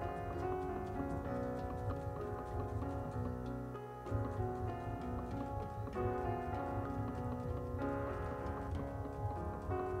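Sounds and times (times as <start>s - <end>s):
instrumental music: 0.0s - 10.0s
ticking beat: 0.0s - 10.0s.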